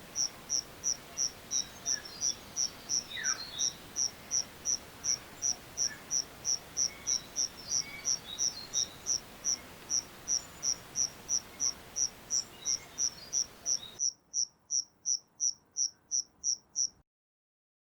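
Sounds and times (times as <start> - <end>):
cricket chirping: 0.2 - 17.0.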